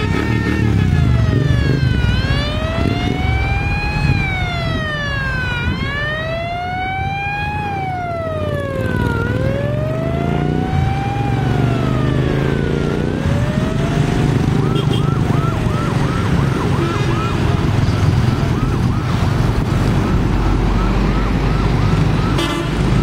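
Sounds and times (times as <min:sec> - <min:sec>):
passing vans and motorbikes: 0:00.0 - 0:23.0
siren wailing: 0:00.0 - 0:23.0.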